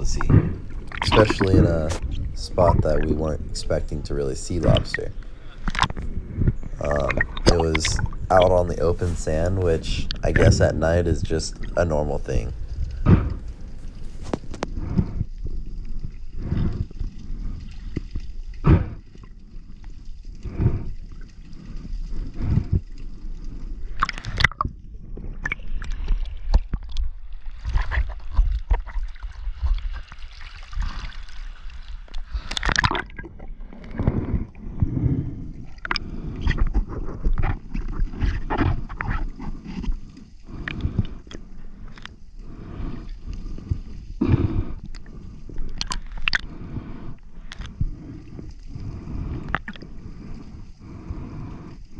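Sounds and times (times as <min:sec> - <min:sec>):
water gurgling and sloshing: 0:00.0 - 0:51.9.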